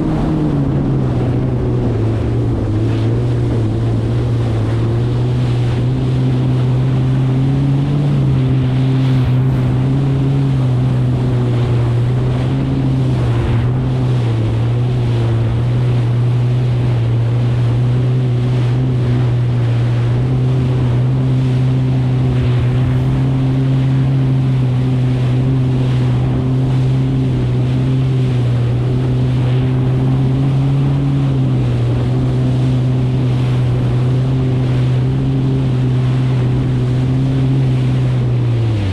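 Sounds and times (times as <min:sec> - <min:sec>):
jet ski engine cruising: 0:00.0 - 0:38.9
water rushing under hull: 0:00.0 - 0:38.9
wind on microphone: 0:00.0 - 0:38.9.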